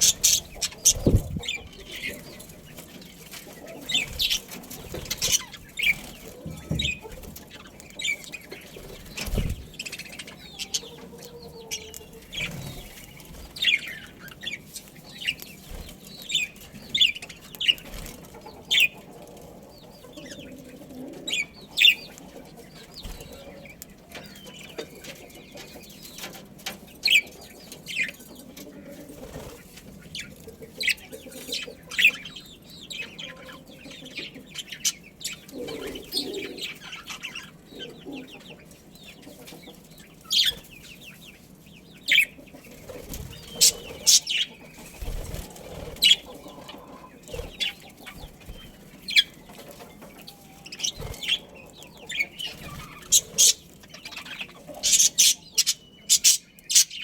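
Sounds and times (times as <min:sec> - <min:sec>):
budgerigars chirping: 0:00.0 - 0:19.1, 0:21.3 - 0:26.3, 0:30.0 - 0:57.0.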